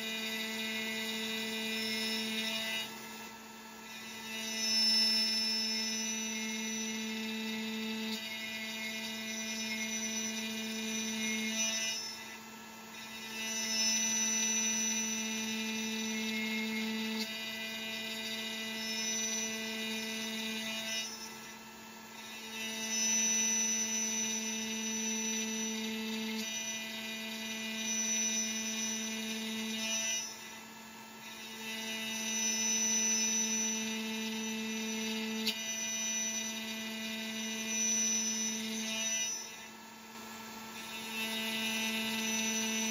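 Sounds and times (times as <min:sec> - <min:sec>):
cnc spindle whining while cutting metal: 0:00.0 - 0:42.9.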